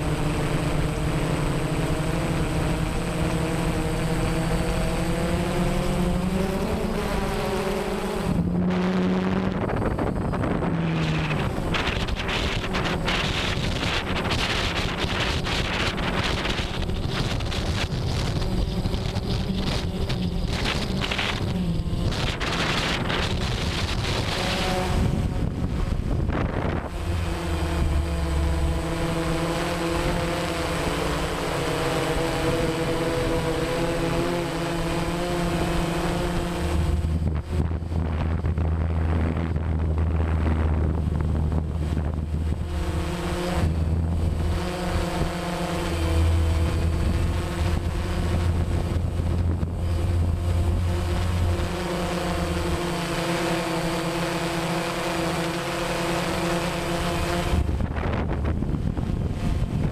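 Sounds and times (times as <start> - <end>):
drone propellers humming: 0.0 - 59.9
wind noise on microphone: 0.0 - 59.9.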